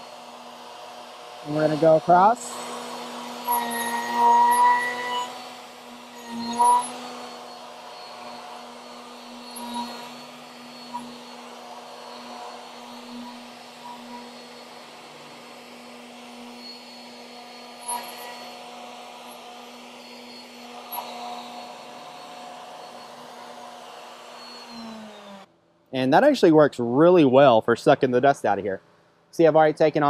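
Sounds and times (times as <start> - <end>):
wood router surfacing board: 0.0 - 25.5.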